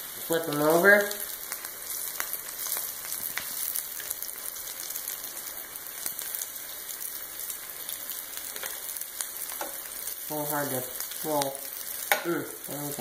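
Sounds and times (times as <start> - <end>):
frying hiss: 0.0 - 13.0
oil popping and crackling: 0.0 - 13.0.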